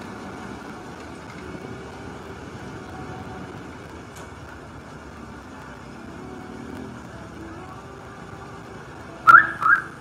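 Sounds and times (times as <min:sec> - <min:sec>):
faint engine hum: 0:00.0 - 0:10.0
street traffic noise: 0:00.0 - 0:10.0.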